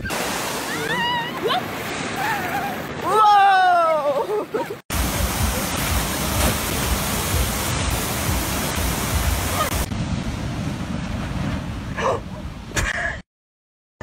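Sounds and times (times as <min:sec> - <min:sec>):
ocean surf washing up: 0:00.0 - 0:12.0
rushing water: 0:00.0 - 0:12.7.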